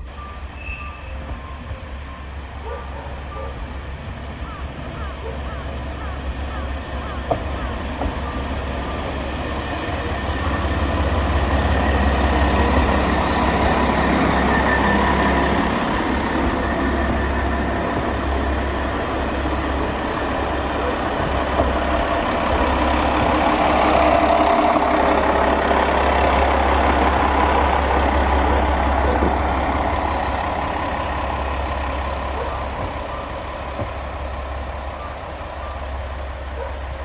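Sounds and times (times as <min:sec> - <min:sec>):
diesel railcar passing: 0:00.0 - 0:37.0
train wheels running: 0:00.0 - 0:37.0.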